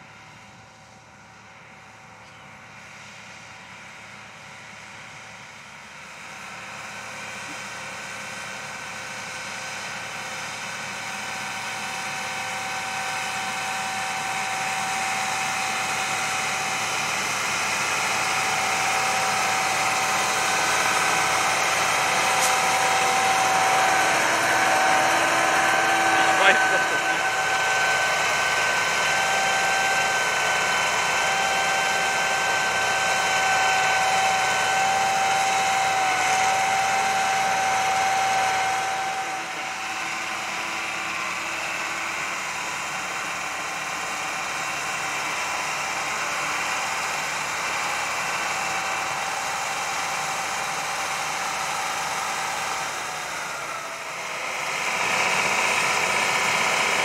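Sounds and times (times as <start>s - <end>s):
diesel engine running: 0.0s - 57.0s
steady high whine: 10.9s - 57.0s.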